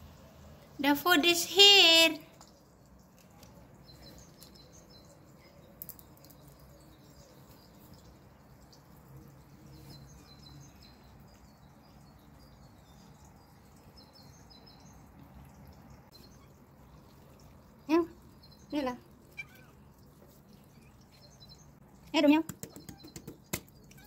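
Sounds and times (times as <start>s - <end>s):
birds chirping: 1.2s - 24.0s.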